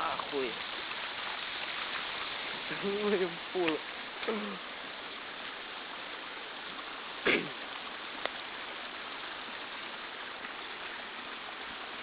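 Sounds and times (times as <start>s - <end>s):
heavy rain: 0.0s - 12.0s
runoff water rushing: 0.0s - 12.0s.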